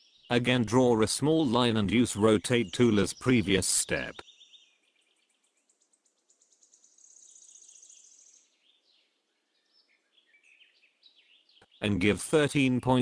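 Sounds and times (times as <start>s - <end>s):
birds trilling and chirping: 0.0s - 13.0s.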